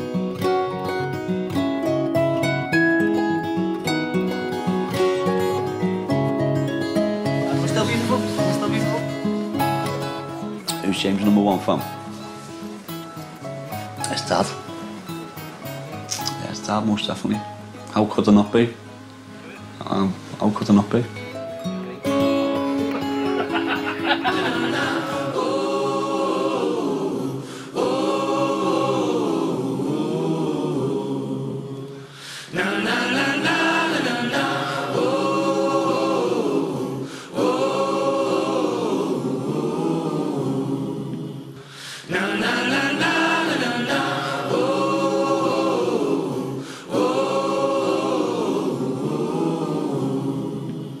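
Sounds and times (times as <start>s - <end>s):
music with sung voices: 0.0s - 51.0s.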